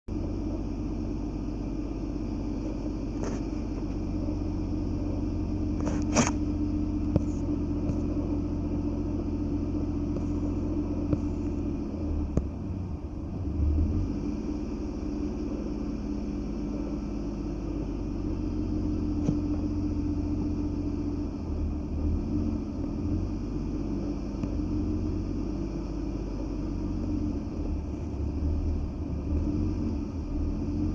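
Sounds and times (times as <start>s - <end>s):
low rumble with droning hum: 0.1s - 30.9s.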